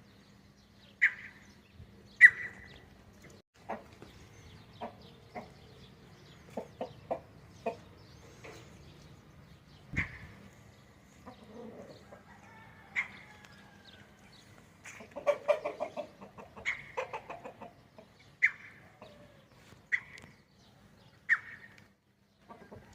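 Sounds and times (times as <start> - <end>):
roosters clucking: 2.2 - 20.4, 21.1 - 22.9.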